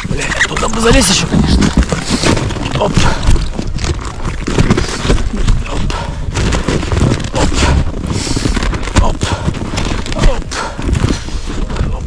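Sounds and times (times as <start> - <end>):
knocks and rustles: 0.0 - 12.0.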